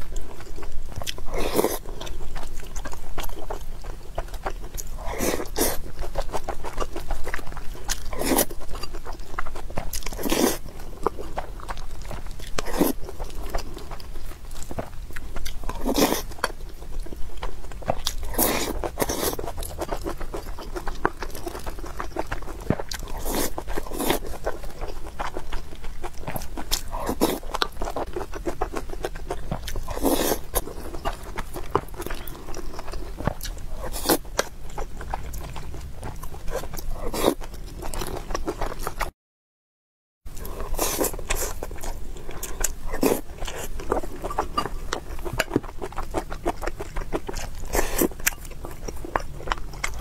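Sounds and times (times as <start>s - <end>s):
chewing and mouth noises: 0.0s - 39.1s, 40.3s - 50.0s.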